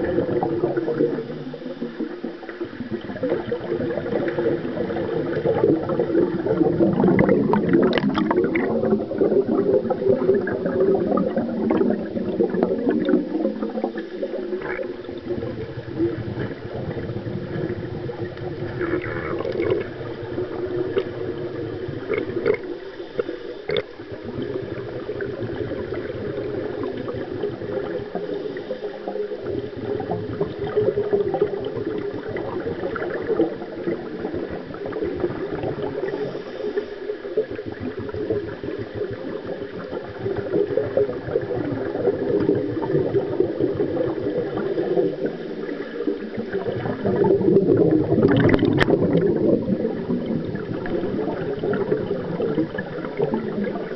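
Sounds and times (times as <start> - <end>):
underwater churning and bubbling: 0.0 - 53.9.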